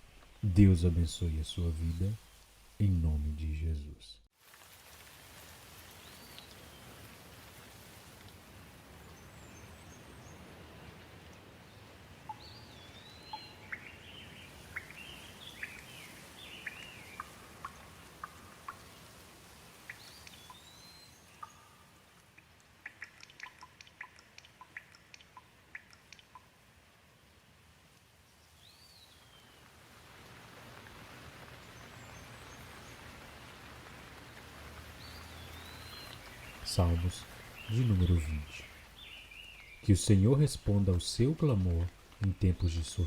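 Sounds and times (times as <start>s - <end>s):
rain falling: 0.0s - 43.0s
water drips: 4.4s - 26.9s, 29.5s - 43.0s.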